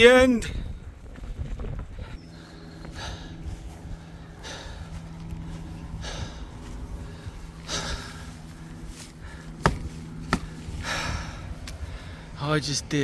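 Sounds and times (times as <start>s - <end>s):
low rumble: 0.4s - 12.4s
man breathing: 1.9s - 12.4s.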